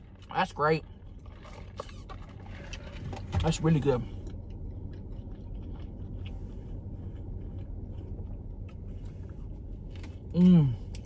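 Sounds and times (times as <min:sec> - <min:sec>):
steady low hum: 0:00.0 - 0:11.0
person chewing: 0:01.0 - 0:11.0.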